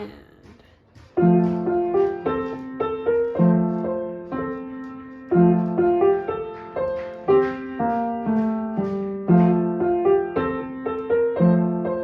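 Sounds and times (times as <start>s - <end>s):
piano melody with chords: 1.2s - 12.0s.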